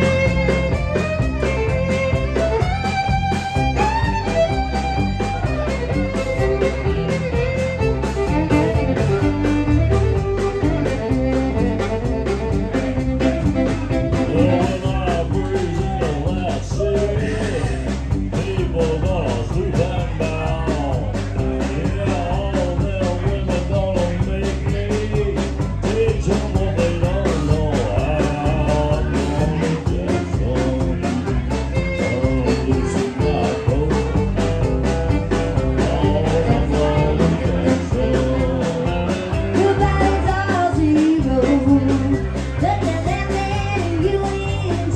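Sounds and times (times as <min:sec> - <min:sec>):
drum kit: 0:00.0 - 0:44.9
electric bass: 0:00.0 - 0:44.9
electric guitar: 0:00.0 - 0:44.9
fiddle: 0:00.0 - 0:44.9.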